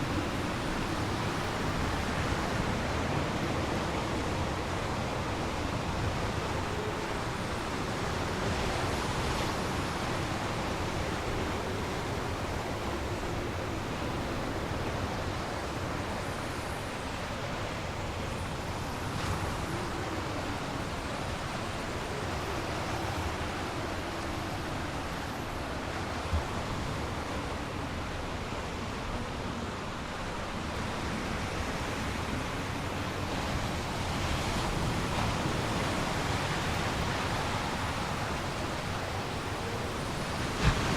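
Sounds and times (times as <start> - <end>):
stormy lake waves: 0.0 - 40.9
strong wind: 0.0 - 40.9.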